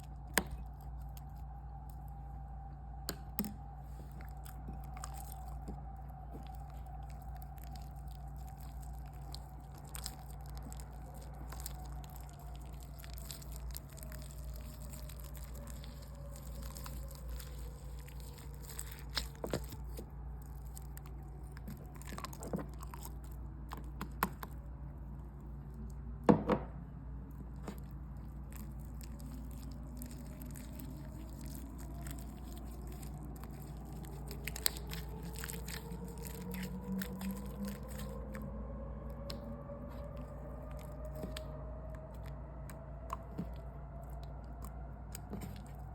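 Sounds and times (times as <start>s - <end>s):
sticky slime clicks and squishes: 0.0s - 2.1s, 3.0s - 24.6s, 27.6s - 45.9s
faint steady hum: 0.0s - 45.9s.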